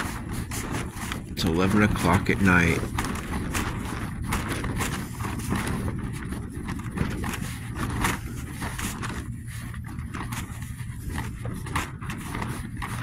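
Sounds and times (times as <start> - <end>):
tarp flapping in wind: 0.0 - 13.0
wind rumble on microphone: 0.0 - 13.0.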